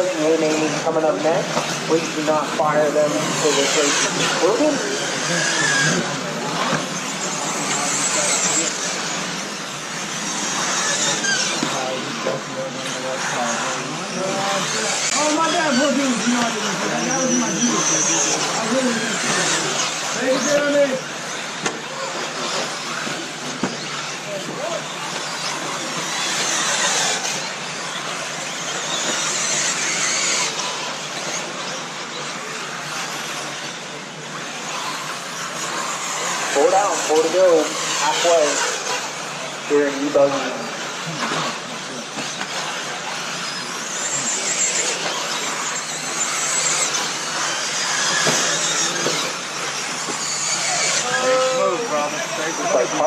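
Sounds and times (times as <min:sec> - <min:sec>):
electric motor whine: 0:00.0 - 0:53.0
tyres on dirt: 0:00.0 - 0:53.0.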